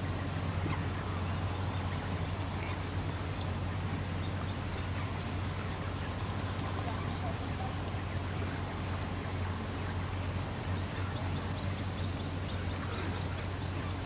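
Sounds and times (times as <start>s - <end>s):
insect chorus trilling: 0.0s - 14.0s
low steady hum: 0.0s - 14.0s.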